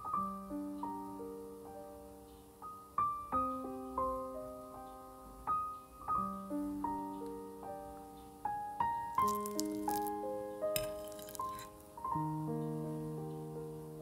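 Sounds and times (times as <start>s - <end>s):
gentle solo piano melody: 0.0s - 14.0s.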